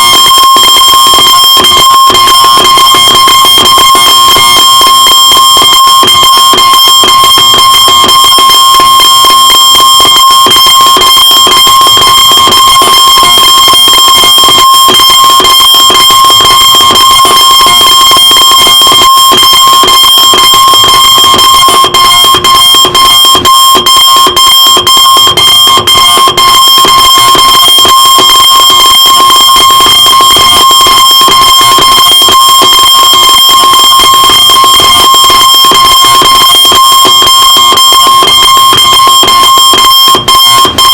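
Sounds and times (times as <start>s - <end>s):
high-pitched alarm clock buzzing: 0.0s - 40.9s.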